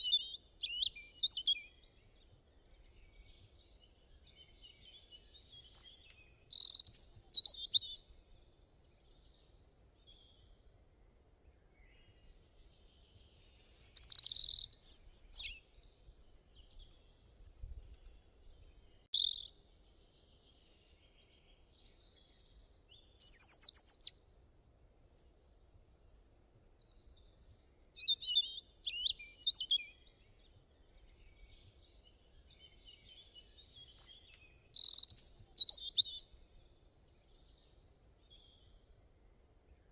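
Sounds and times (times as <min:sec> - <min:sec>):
songbird singing: 0:00.0 - 0:24.4, 0:25.1 - 0:39.9.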